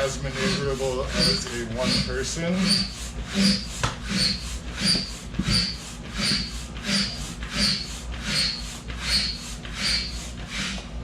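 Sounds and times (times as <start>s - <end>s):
hand pump rushing air: 0.0s - 10.9s.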